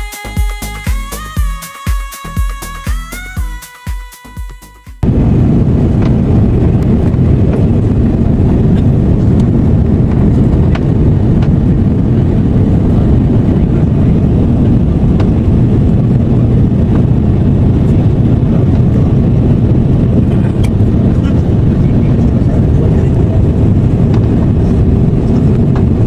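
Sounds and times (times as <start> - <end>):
jet cabin rumble: 5.0 - 26.0
rushing air: 5.0 - 26.0.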